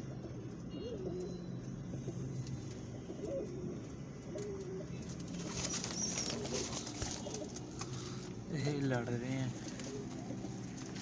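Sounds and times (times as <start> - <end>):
pigeons cooing: 0.0 - 8.3, 9.6 - 11.0.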